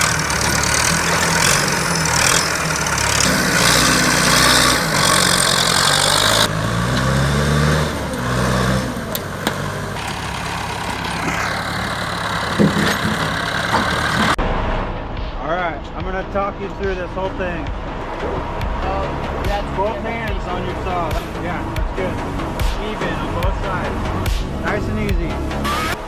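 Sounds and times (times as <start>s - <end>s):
engine and machinery noise: 0.0s - 26.0s
tractor engine revving: 0.0s - 26.0s.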